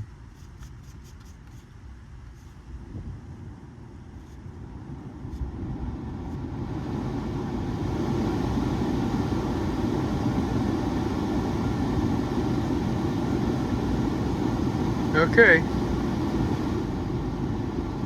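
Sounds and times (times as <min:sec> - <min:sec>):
blower fan rushing air: 0:01.5 - 0:18.0.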